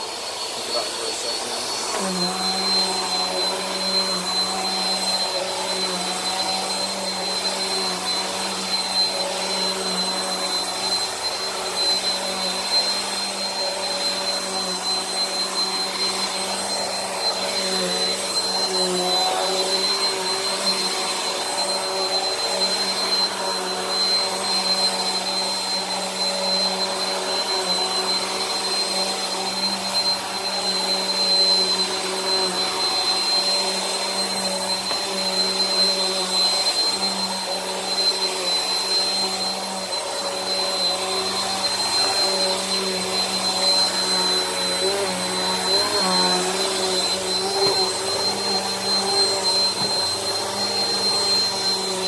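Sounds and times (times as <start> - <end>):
upright vacuum running over carpet: 0.0 - 52.0.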